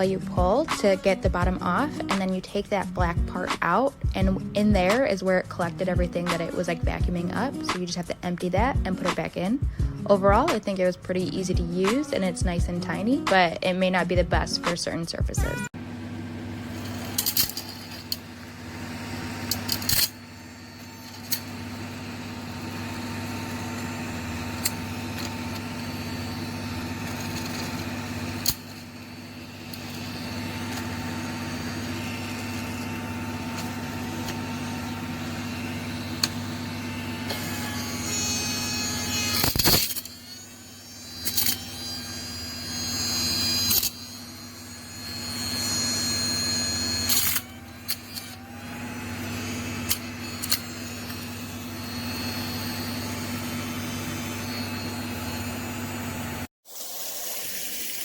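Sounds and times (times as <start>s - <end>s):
mini vacuum cleaner fan hum: 0.0s - 58.0s.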